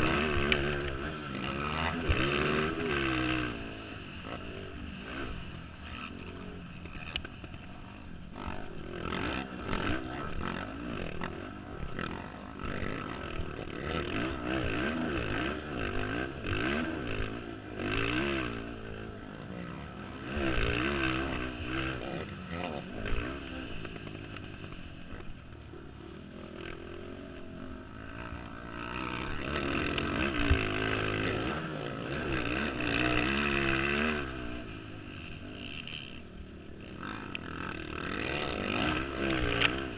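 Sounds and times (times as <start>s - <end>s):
atv engines revving: 0.0s - 39.9s.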